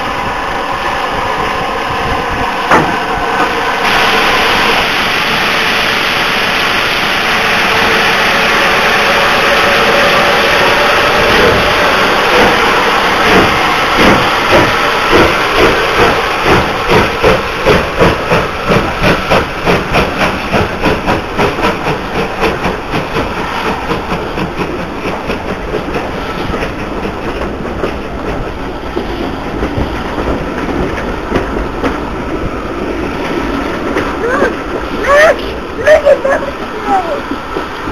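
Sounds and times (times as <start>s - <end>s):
steam locomotive exhaust chuffs: 0.0s - 36.4s.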